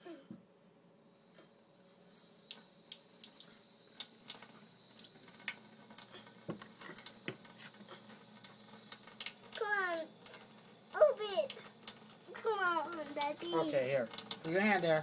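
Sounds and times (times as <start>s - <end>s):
water running from a tap: 2.0s - 15.0s
water splashes and drips: 2.1s - 15.0s.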